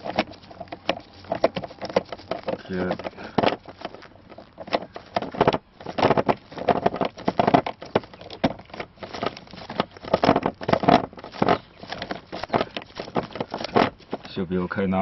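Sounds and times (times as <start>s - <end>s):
glove rubbing plastic handle: 0.0s - 14.4s.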